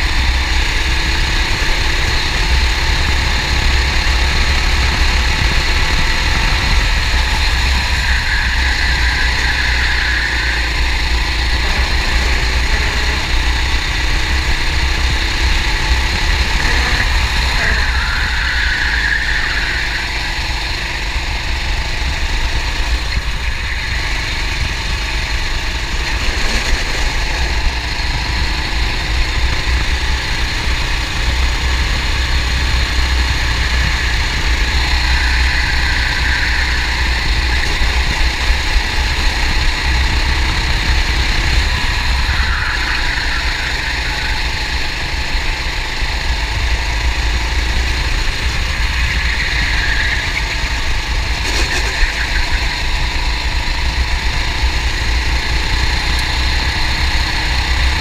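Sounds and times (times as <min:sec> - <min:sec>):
kart engine running flat out: 0:00.0 - 0:58.0
wind rumble on camera: 0:00.0 - 0:58.0.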